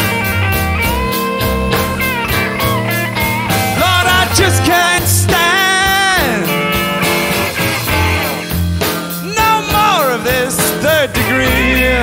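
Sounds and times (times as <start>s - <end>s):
blues band music: 0.0s - 12.0s.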